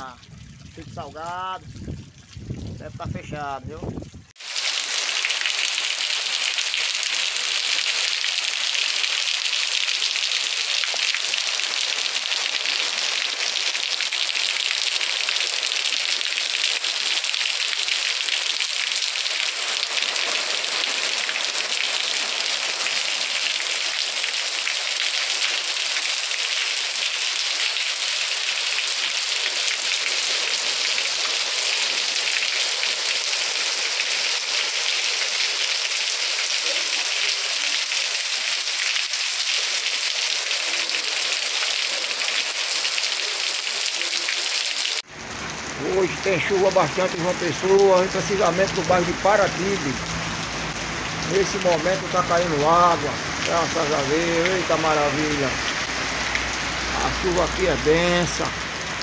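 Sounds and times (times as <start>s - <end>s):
steady rain falling: 4.3s - 59.0s.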